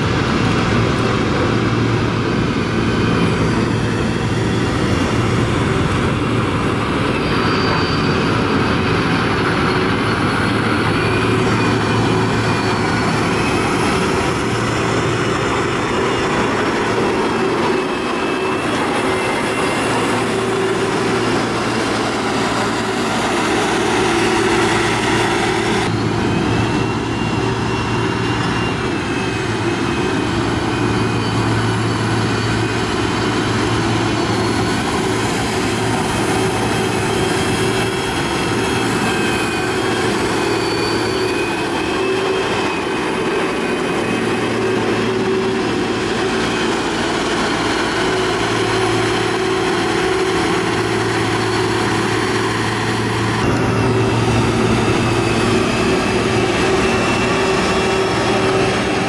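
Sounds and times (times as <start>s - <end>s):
diesel engine droning: 0.0s - 59.0s
wavering high whine: 0.6s - 59.0s.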